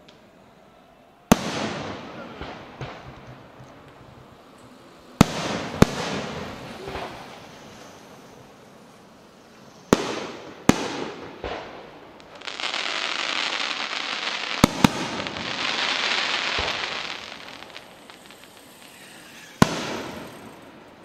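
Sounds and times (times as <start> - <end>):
fireworks crackling: 0.0 - 21.0
firework bangs: 1.3 - 21.0.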